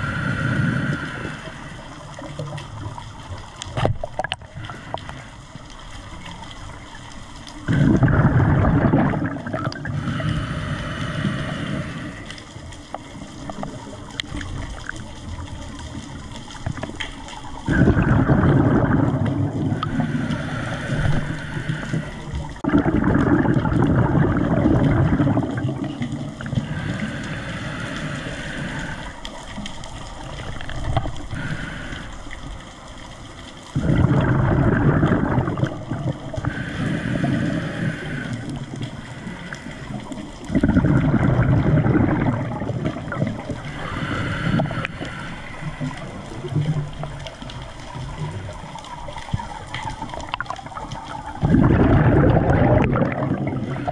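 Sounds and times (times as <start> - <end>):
water sloshing and gurgling: 0.0 - 53.9.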